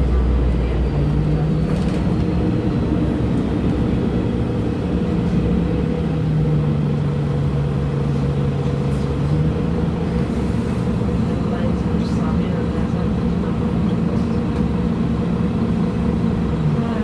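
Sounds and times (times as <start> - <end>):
low hum: 0.0 - 16.3
bus engine drone: 0.0 - 17.0
road rumble: 0.0 - 17.0.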